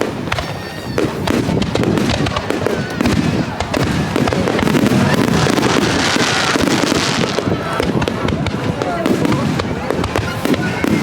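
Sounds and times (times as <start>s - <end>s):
fireworks bursting and crackling: 0.0s - 11.0s
fireworks whistling: 0.0s - 11.0s.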